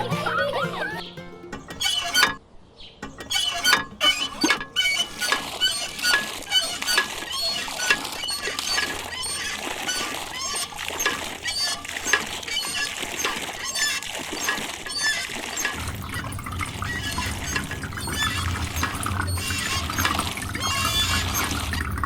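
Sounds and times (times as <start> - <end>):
quick small clicks and squeaks: 1.5 - 2.4, 3.0 - 22.0
water pouring and splashing: 1.5 - 2.4, 3.0 - 22.0.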